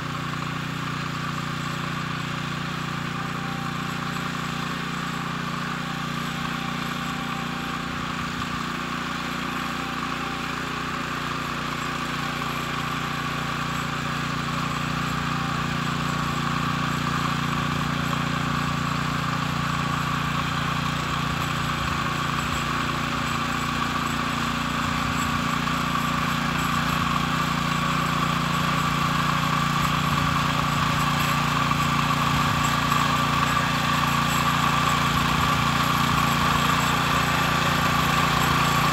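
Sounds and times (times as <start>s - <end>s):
walk-behind tractor engine running: 0.0s - 38.9s.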